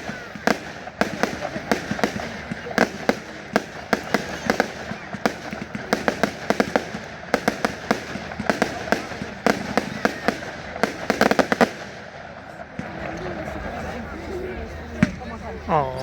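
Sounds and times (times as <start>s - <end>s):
fireworks bangs and crackling: 0.0s - 14.2s.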